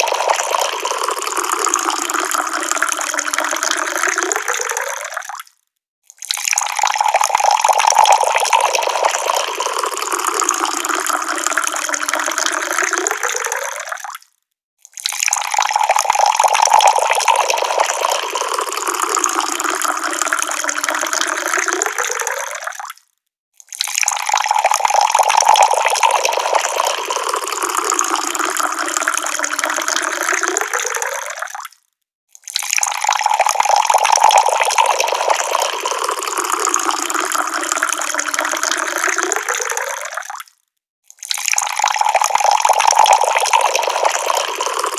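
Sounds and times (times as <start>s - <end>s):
water pouring from a tap: 0.0s - 5.5s, 6.1s - 23.0s, 23.6s - 44.9s.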